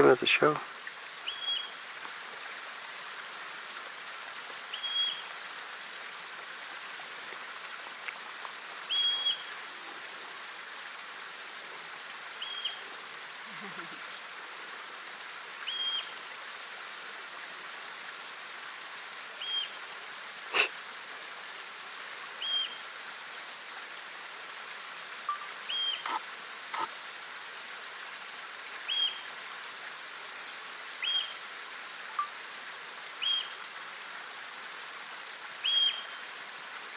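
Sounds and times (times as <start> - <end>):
steady rushing hiss: 0.0 - 35.6.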